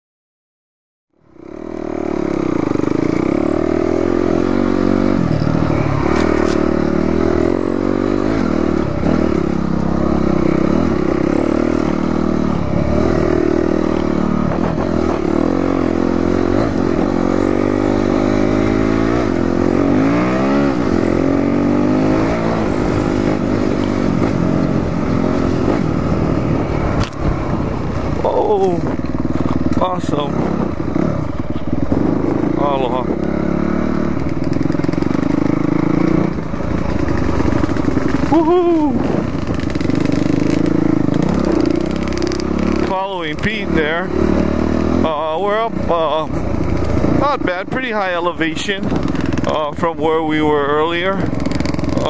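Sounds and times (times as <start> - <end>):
dirt bike engine revving: 1.3 - 52.0.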